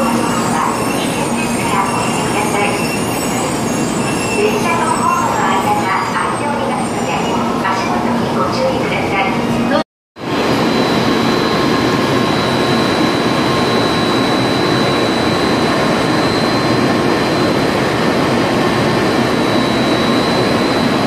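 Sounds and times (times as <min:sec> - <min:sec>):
high steady whine: 0:00.0 - 0:21.0
train equipment whirring hum: 0:00.0 - 0:21.0.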